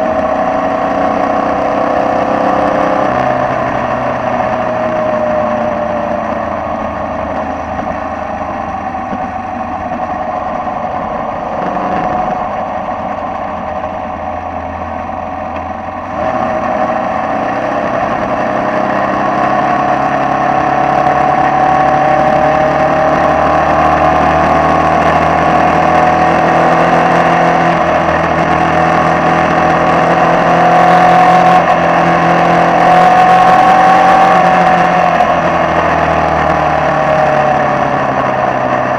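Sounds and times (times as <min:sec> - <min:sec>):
racing car engine: 0:00.0 - 0:38.9.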